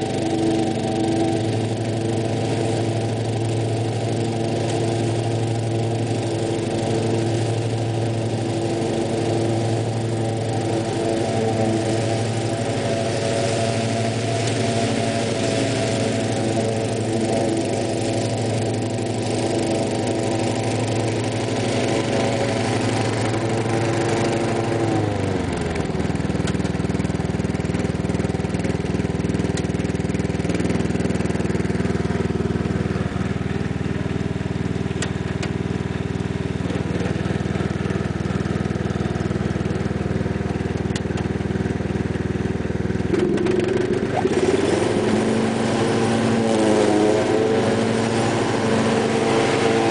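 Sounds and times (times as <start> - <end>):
lawn tractor engine running: 0.0 - 49.9.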